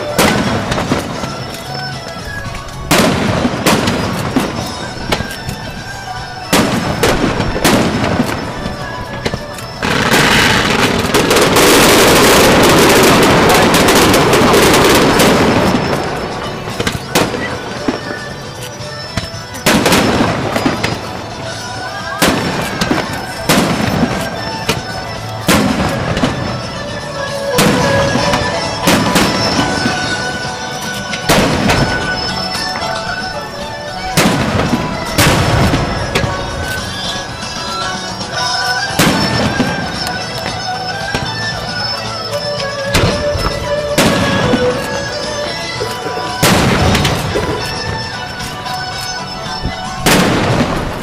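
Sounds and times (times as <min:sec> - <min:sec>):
firework shells bursting: 0:00.0 - 0:51.0
music: 0:00.0 - 0:51.0.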